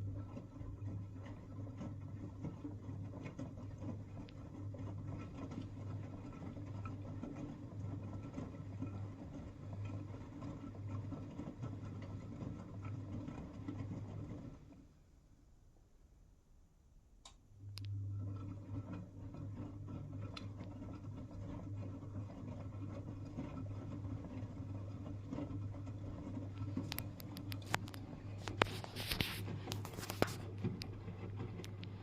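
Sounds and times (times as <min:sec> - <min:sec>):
washing machine running: 0:00.0 - 0:15.1, 0:17.6 - 0:32.0.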